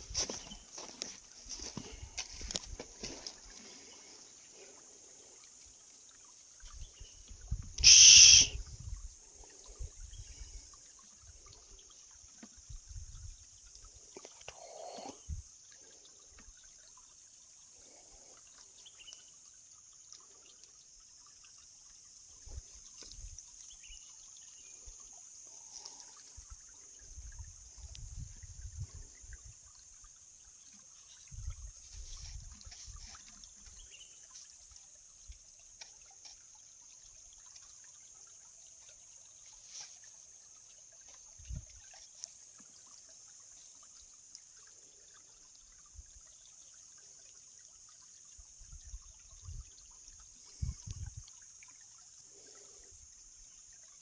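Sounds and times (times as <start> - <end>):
small stream trickling: 0.0 - 54.0.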